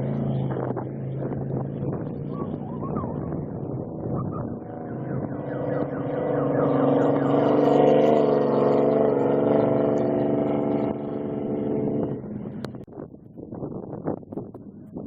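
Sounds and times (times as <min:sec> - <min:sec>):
race vehicle engine passing: 0:00.0 - 0:12.7.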